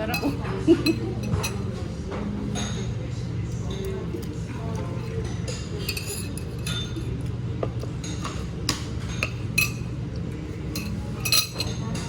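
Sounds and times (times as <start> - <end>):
cutlery and dishes clinking: 0.0 - 3.0, 3.6 - 10.0, 10.6 - 12.0
low background hum: 0.0 - 12.0.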